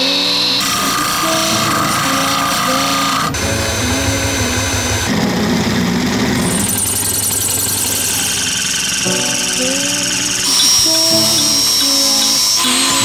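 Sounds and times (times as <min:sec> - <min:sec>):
chainsaw engine running: 0:00.0 - 0:13.0
music: 0:00.0 - 0:13.0.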